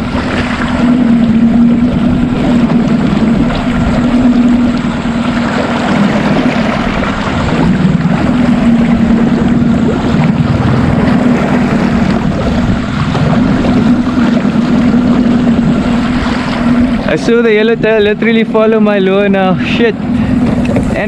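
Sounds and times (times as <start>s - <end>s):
boat motor humming: 0.0s - 21.0s
choppy water: 0.0s - 21.0s
wind: 0.0s - 21.0s.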